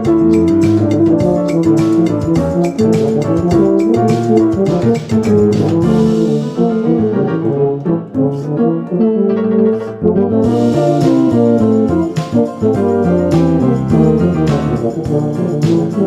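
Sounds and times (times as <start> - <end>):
piano accompaniment: 0.0 - 16.0
tuba melody: 0.0 - 16.0.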